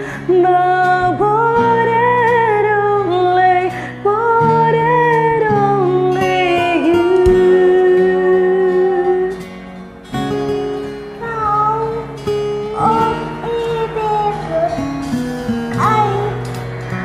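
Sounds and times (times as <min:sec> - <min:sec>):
acoustic guitar backing track: 0:00.0 - 0:17.0.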